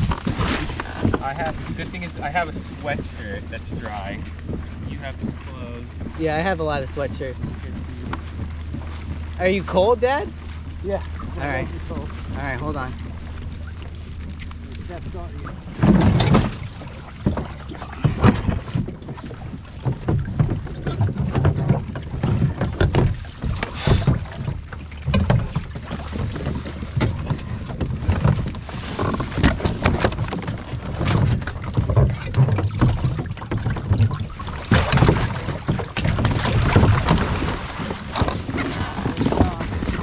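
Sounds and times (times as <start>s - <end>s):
kayak bumps and knocks: 0.0s - 40.0s
water sloshing against kayak hulls: 0.0s - 40.0s.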